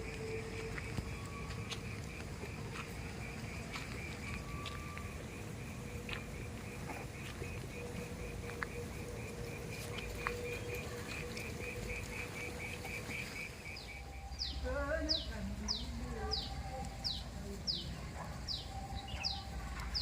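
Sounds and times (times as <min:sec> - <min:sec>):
bird whistling: 0:00.0 - 0:06.3, 0:06.9 - 0:20.0
insect chirping: 0:00.0 - 0:20.0.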